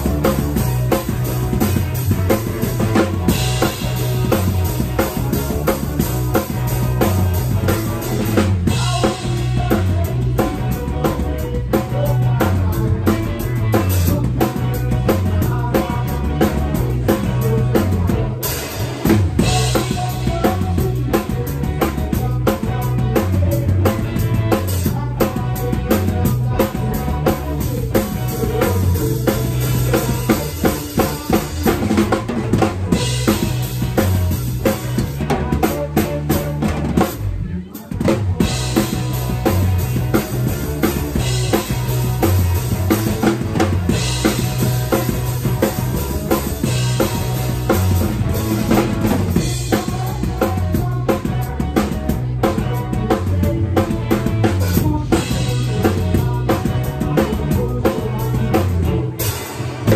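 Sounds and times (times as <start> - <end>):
drum kit beat: 0.0 - 59.9
live band playing: 0.0 - 59.9.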